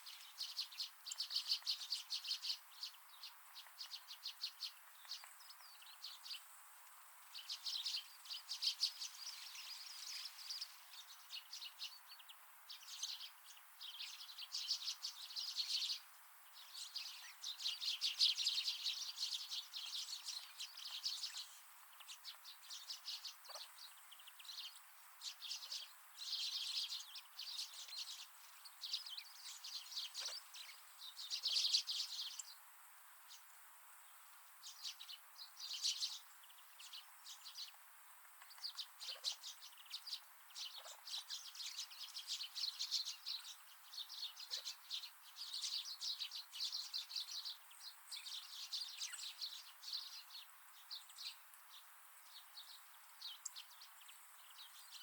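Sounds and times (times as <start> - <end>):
birds chirping and twittering: 0.0 - 55.0.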